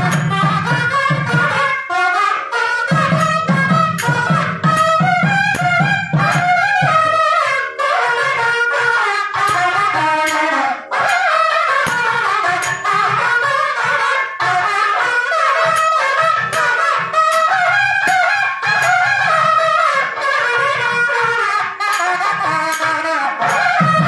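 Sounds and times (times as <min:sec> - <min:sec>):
drum strokes: 0:00.0 - 0:24.0
reedy wind instruments melody: 0:00.0 - 0:24.0.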